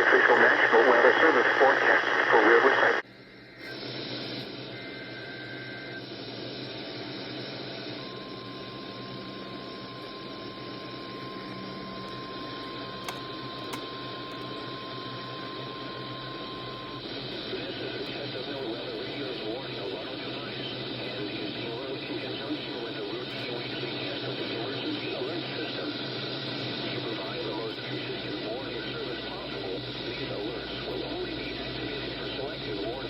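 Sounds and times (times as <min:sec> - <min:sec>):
radio static hiss: 0:00.0 - 0:33.0
faint steady tone: 0:00.1 - 0:33.0.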